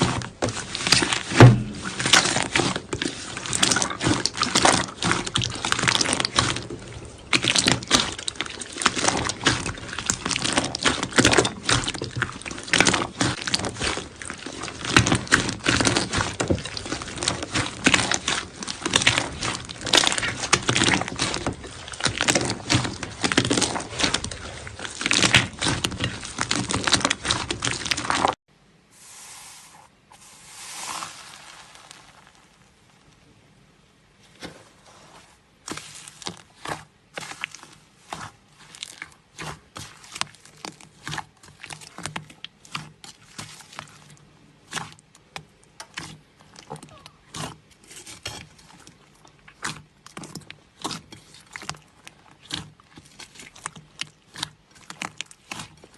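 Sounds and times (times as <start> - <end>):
slime crackling and popping: 0.0 - 28.4, 35.7 - 55.9
soft slime squishes: 0.0 - 28.4, 29.0 - 55.9.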